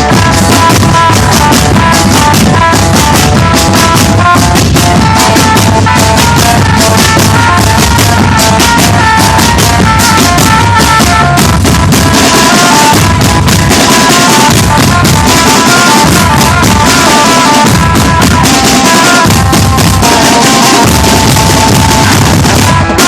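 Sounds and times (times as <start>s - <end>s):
bass drums beating: 0.0s - 23.0s
snare drums beating: 0.0s - 23.0s.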